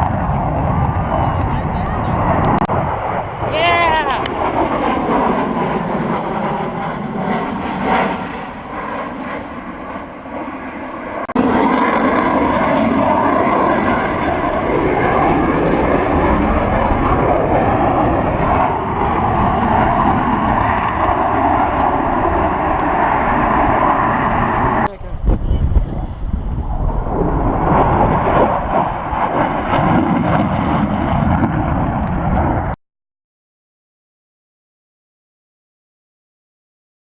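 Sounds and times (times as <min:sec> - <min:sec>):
airplane engine noise: 0:00.0 - 0:32.8.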